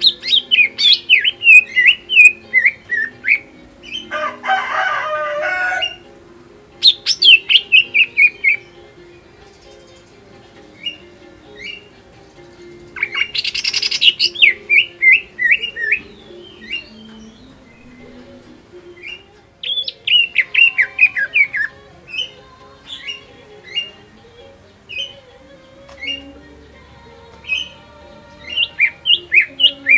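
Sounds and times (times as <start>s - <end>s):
songbird singing varied song: 0.0s - 29.9s.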